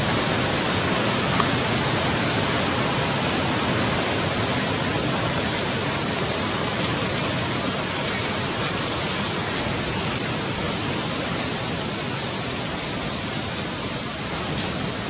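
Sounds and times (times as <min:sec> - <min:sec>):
loud rushing noise: 0:00.0 - 0:15.0.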